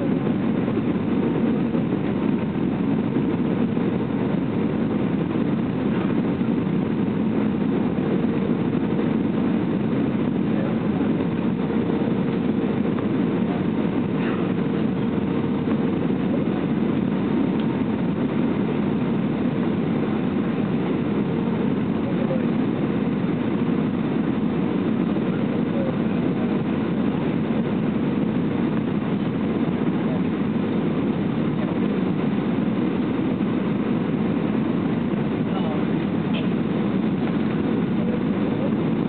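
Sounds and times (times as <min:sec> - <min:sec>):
faint steady hum: 0:00.0 - 0:39.0
jet engines roaring: 0:00.0 - 0:39.0
rushing air: 0:00.0 - 0:39.0.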